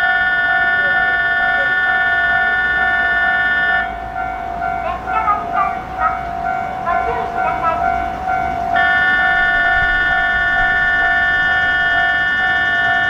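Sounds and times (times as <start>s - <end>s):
electronic multi-tone signal: 0.0s - 13.0s.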